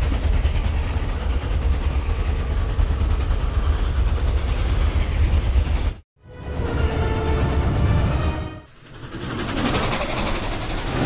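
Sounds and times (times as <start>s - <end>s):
steam train running on rails: 0.0s - 11.0s.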